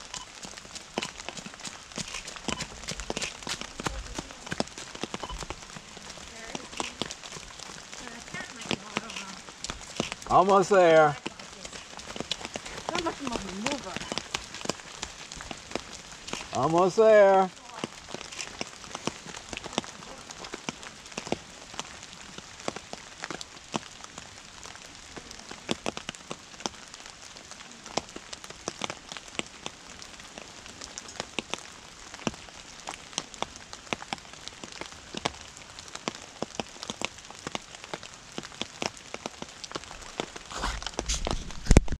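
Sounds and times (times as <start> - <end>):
raindrops tapping near microphone: 0.0 - 41.9
steady rain: 0.0 - 41.9.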